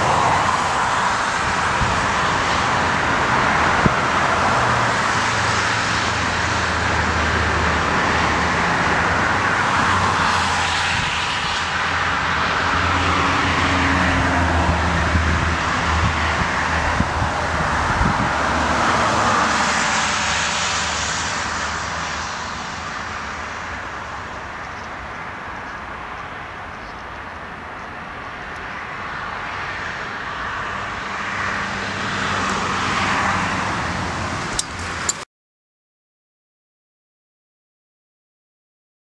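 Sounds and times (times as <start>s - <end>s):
jet engine roar: 0.0s - 35.2s.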